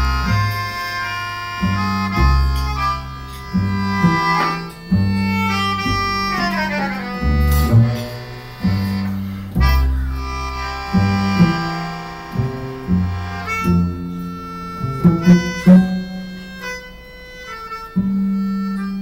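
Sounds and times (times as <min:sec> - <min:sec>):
melodica melody: 0:00.0 - 0:19.0
plucked double bass: 0:00.0 - 0:19.0.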